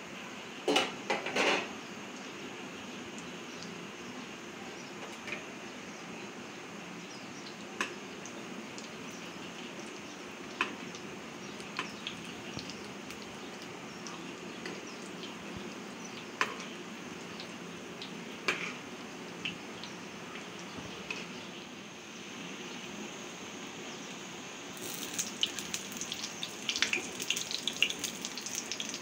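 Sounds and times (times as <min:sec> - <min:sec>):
fritters sizzling in hot oil: 0:00.6 - 0:29.0.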